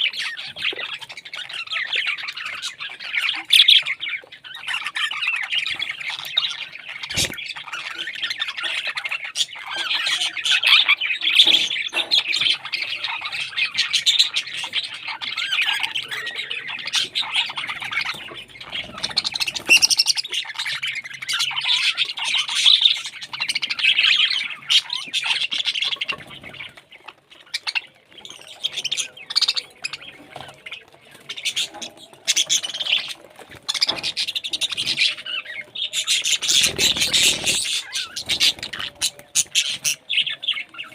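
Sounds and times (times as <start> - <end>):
parrots squawking and chirping: 0.0 - 40.9.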